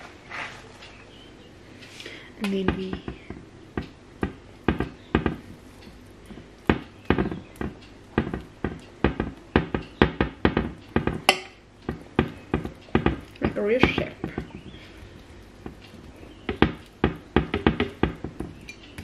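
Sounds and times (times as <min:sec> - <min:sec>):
spoon tapping and scraping on tray: 0:02.4 - 0:19.0.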